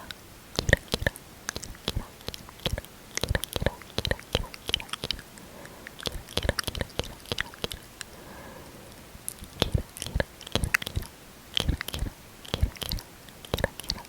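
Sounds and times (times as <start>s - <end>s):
lip smacking: 0.0s - 14.0s.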